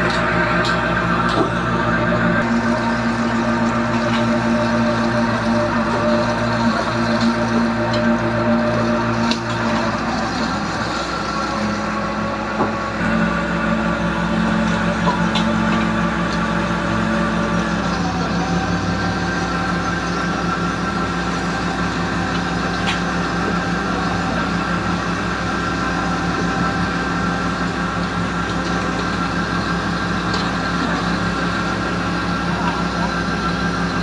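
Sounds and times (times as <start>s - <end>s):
boat engine drone: 0.0s - 34.0s
line hauler running: 0.0s - 34.0s.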